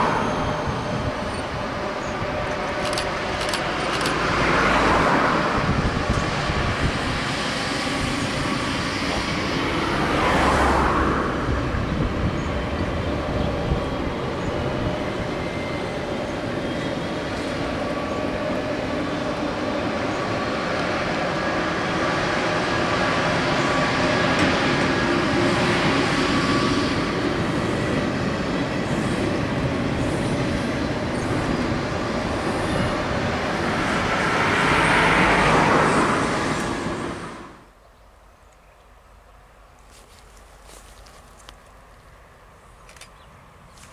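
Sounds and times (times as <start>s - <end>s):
train wheels rolling on rail: 0.0s - 37.6s.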